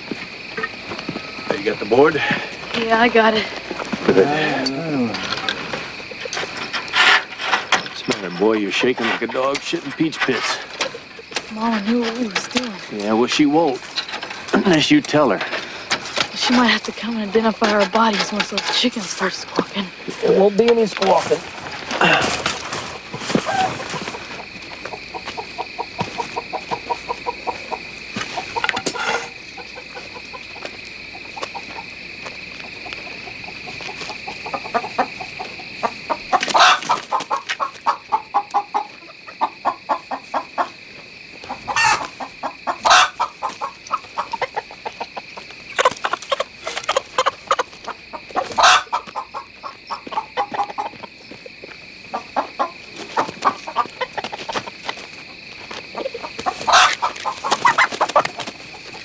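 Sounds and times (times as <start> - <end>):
chickens clucking: 0.0 - 59.0
chickens squawking: 0.8 - 59.0.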